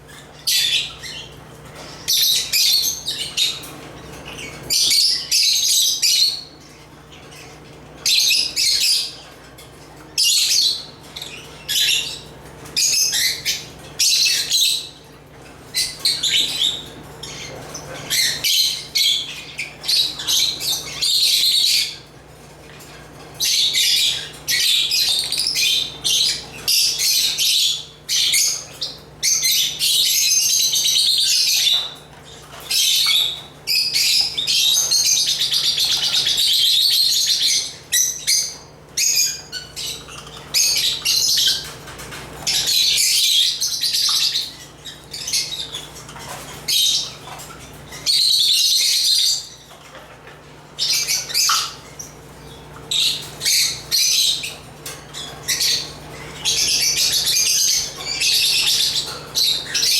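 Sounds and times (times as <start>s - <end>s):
lovebirds chattering and chirping: 0.0s - 59.9s.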